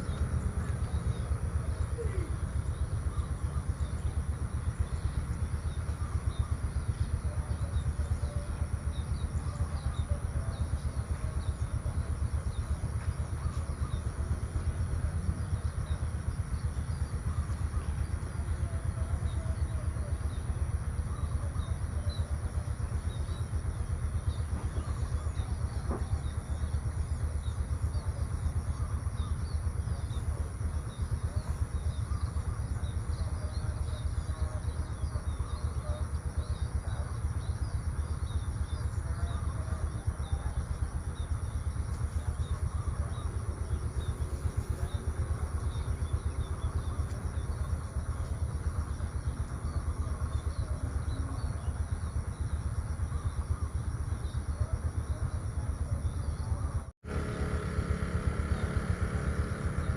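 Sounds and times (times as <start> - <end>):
faint bird chirps: 0.0 - 59.9
steady low rumble: 0.0 - 59.9.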